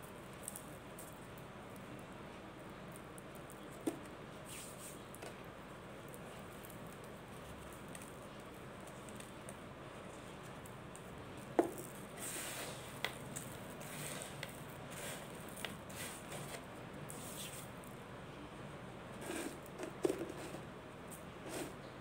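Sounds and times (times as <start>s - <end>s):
gritty crunching and crackling: 0.3s - 18.0s.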